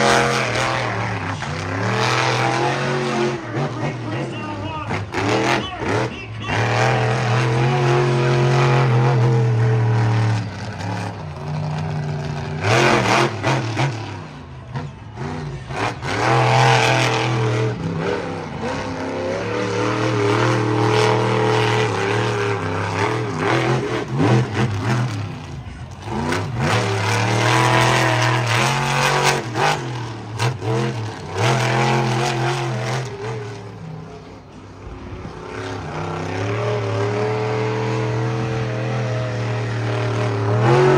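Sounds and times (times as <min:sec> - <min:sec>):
truck engine revving hard: 0:00.0 - 0:40.9.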